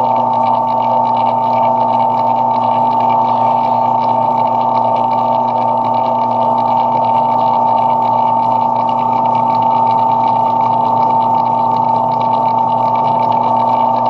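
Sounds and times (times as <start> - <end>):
lathe whining: 0.0 - 14.0.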